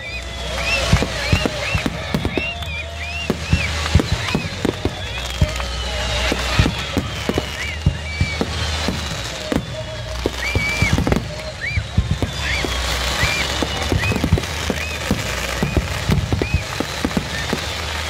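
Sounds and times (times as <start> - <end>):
fireworks bangs and pops: 0.0 - 18.0.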